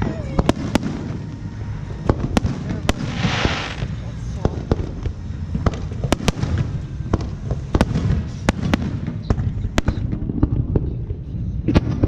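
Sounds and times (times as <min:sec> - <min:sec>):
continuous low rumble: 0:00.0 - 0:12.0
fireworks bursting with sharp bangs: 0:00.0 - 0:12.0.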